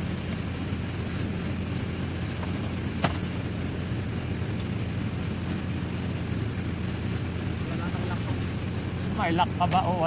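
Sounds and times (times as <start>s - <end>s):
low mechanical drone: 0.0s - 10.0s.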